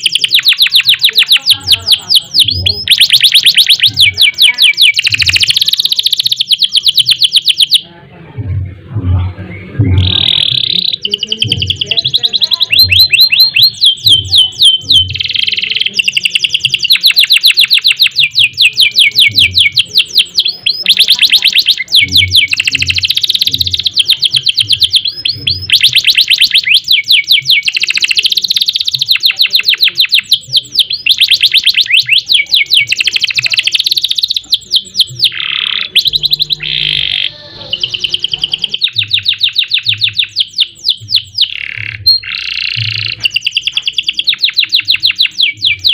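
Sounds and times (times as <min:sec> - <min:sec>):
canary singing trills: 0:00.0 - 0:08.0, 0:09.4 - 0:45.9.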